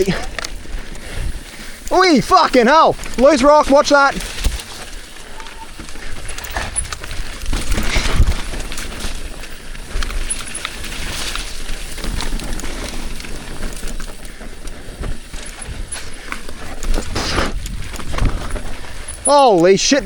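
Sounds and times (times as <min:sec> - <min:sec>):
bike clattering over rocks: 0:00.0 - 0:20.0
bike tyres rushing on trail: 0:00.0 - 0:20.0.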